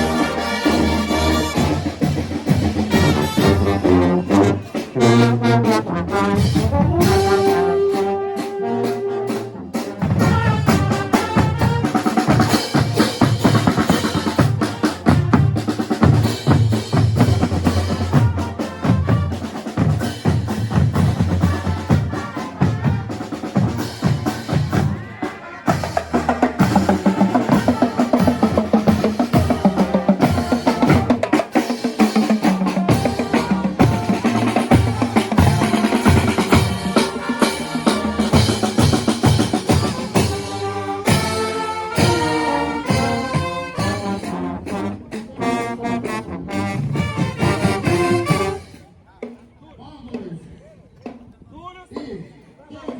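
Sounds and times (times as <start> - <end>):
snare drum rolls and rimshots: 0.0 - 8.5, 9.3 - 48.8
marching band playing: 0.0 - 51.3.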